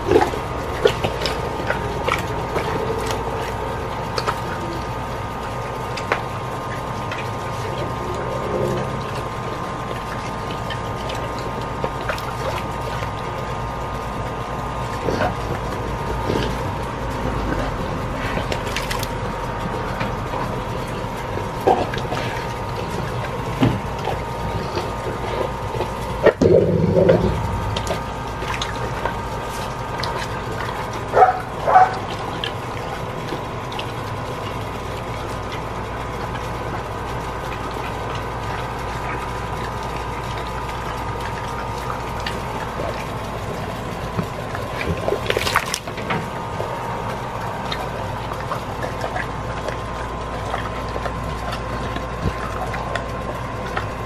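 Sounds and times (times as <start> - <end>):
dog chewing and smacking: 0.0 - 54.0.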